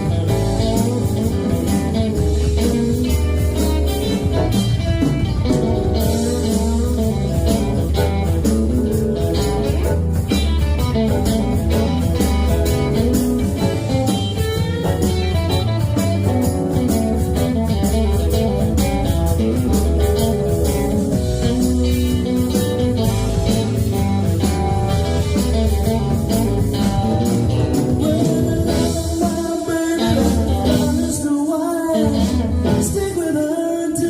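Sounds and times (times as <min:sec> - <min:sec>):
lead guitar: 0:00.0 - 0:34.0
live band instrumental: 0:00.0 - 0:34.0.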